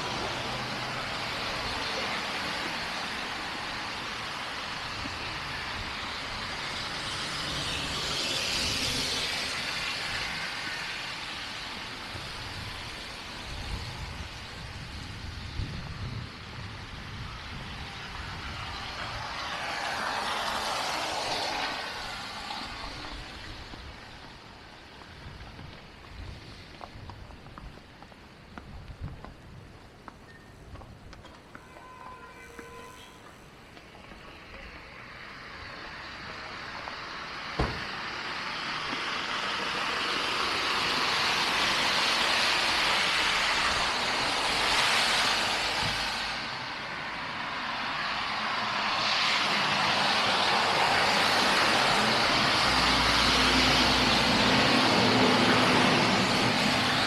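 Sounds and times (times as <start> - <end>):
tyres hissing on snowy road: 0.0 - 57.0.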